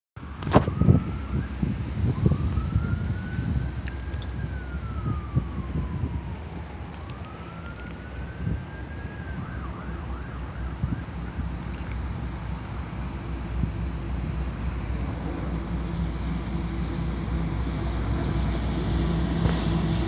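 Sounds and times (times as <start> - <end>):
emergency vehicle siren: 0.2 - 20.0
low rumbling noise: 0.2 - 20.0.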